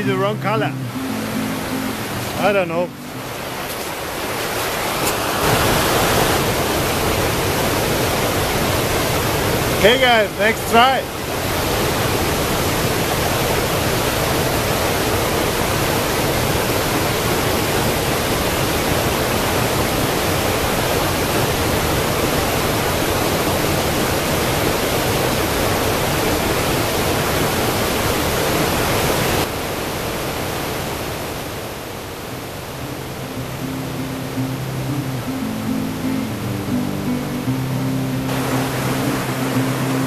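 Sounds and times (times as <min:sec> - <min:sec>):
river rushing over waterfall: 0:00.0 - 0:40.0.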